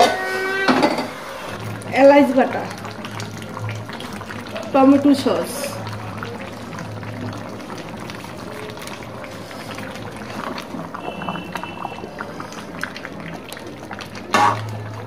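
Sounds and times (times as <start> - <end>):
curry sizzling in a metal pan: 0.0 - 15.0.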